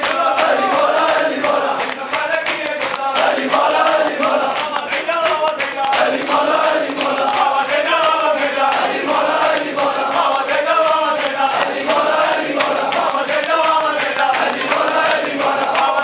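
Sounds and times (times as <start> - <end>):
crowd of men chanting: 0.0 - 16.0
hands slapping chests: 0.0 - 16.0.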